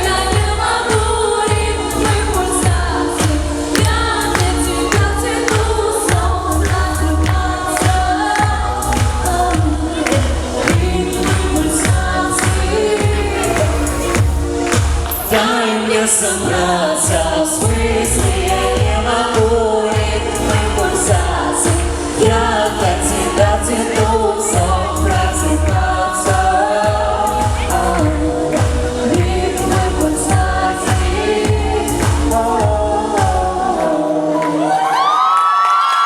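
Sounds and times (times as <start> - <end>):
steady bass beat: 0.0 - 15.6, 16.3 - 33.8
person singing: 0.0 - 35.6.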